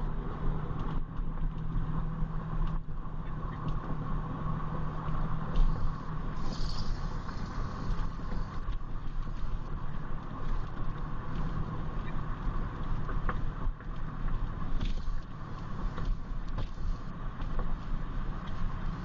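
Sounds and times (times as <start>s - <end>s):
car engine and road rumble: 0.0s - 19.0s
constant hum: 0.0s - 19.0s.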